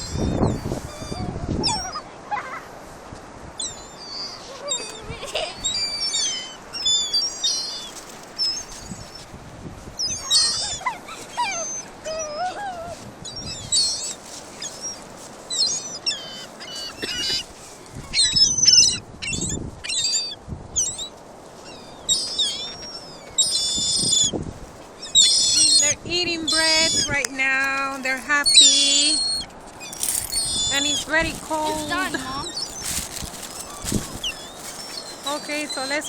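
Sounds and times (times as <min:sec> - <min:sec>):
gulls calling: 0:00.0 - 0:02.7, 0:03.6 - 0:09.3, 0:10.0 - 0:36.0.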